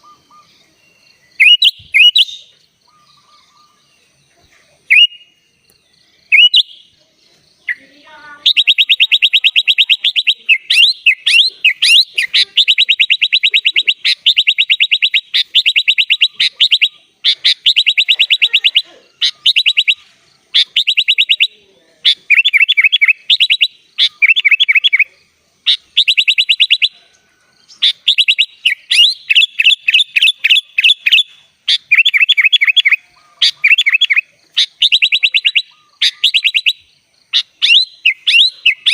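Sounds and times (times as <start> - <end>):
bird singing trills: 0.0 - 38.9.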